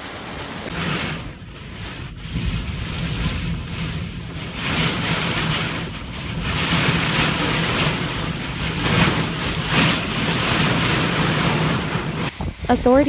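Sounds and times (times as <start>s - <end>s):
wind gusting against microphone: 0.0s - 13.0s.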